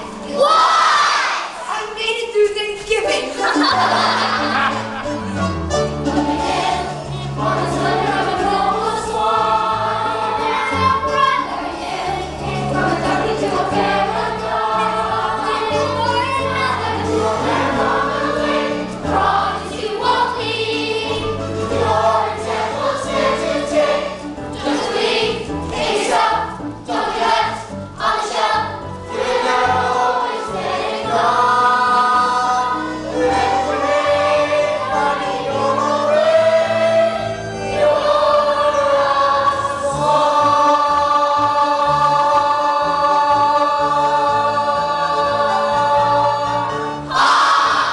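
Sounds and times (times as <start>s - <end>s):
choir singing sustained notes: 6.0s - 47.9s.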